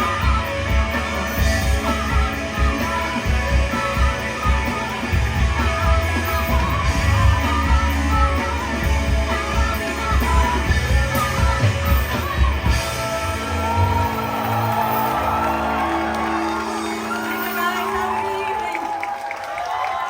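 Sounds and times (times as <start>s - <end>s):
live rock band playing: 0.0s - 18.7s.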